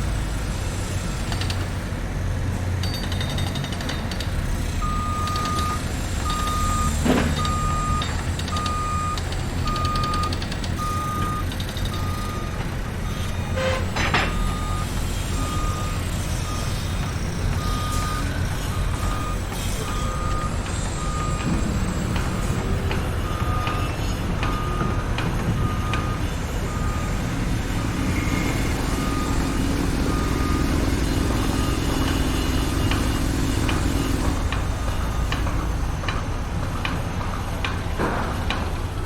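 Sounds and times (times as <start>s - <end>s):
diesel machinery rumble: 0.0s - 39.0s
truck reversing alarm beeping: 2.8s - 37.8s.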